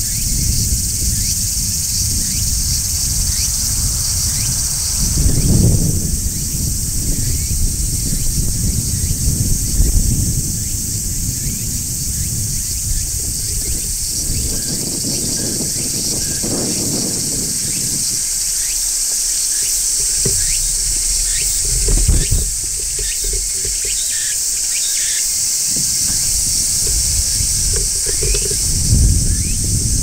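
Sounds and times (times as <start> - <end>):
cicadas shrilling: 0.0 - 30.0.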